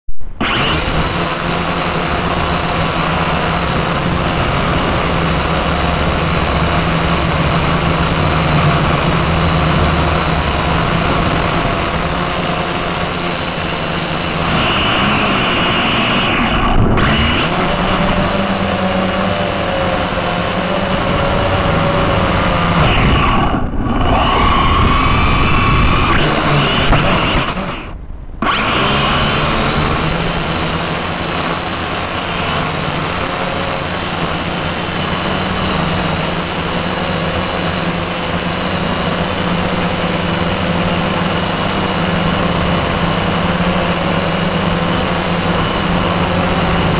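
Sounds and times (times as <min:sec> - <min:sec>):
quadcopter propellers whining: 0:00.1 - 0:46.9.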